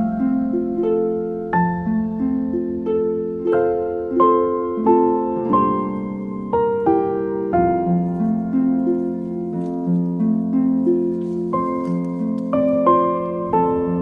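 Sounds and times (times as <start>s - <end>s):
plucked harp-like melody: 0.0s - 14.0s.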